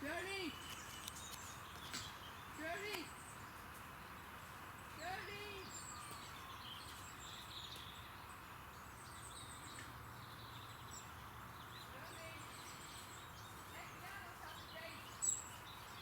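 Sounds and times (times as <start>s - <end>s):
faint birds chirping: 0.0s - 16.0s
low outdoor background noise: 0.0s - 16.0s.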